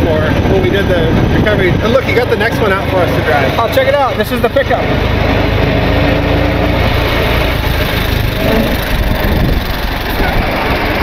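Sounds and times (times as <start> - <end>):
old car engine running: 0.0 - 11.0
wind and road noise: 0.0 - 11.0.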